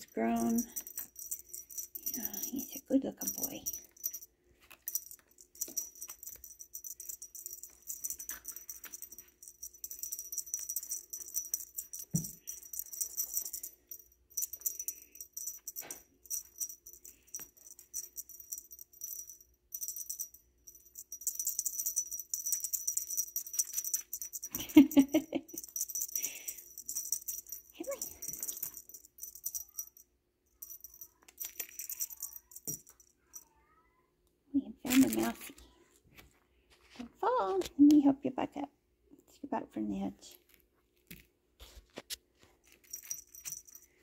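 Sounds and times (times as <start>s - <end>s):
cat toy jingling and rattling: 0.0s - 33.7s, 34.8s - 35.6s, 42.6s - 44.0s.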